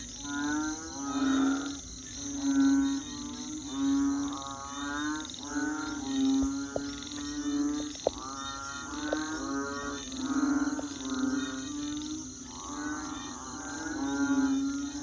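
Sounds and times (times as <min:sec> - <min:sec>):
crickets chirring: 0:00.0 - 0:15.0
frogs croaking: 0:00.0 - 0:15.0.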